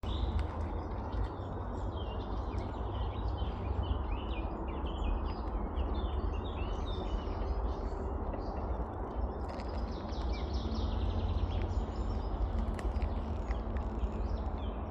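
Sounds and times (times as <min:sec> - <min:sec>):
songbirds chirping and whistling: 0:00.0 - 0:14.9
steady low rumble: 0:00.0 - 0:14.9.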